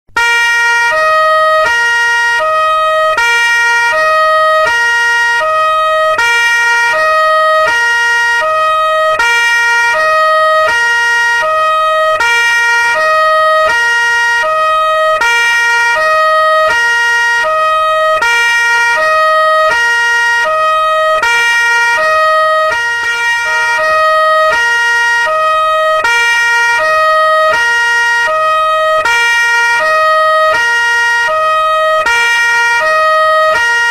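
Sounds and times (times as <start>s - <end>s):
two-tone police siren: 0.1s - 33.9s.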